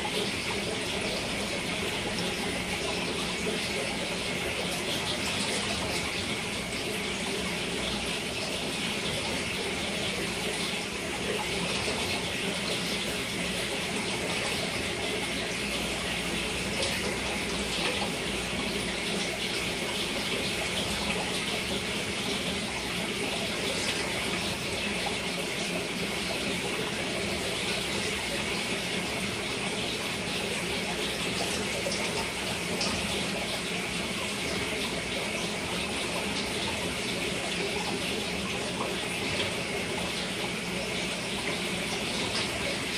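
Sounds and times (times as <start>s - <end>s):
aquarium water rushing: 0.0s - 42.9s.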